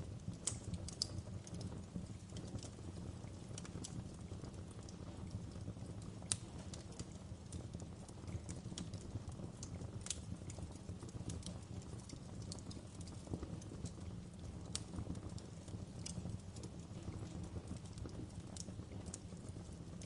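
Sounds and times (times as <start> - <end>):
low steady rumble: 0.0 - 20.0
wood fire crackling: 0.0 - 20.0
loud fire pops: 0.1 - 20.0.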